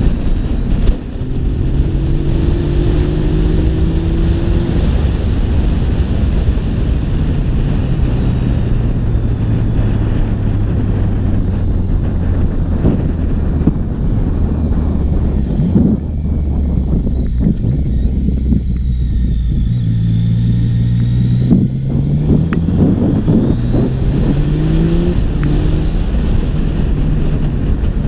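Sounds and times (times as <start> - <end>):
motorcycle engine slowing: 0.0 - 28.0
wind rush on microphone: 0.0 - 28.0.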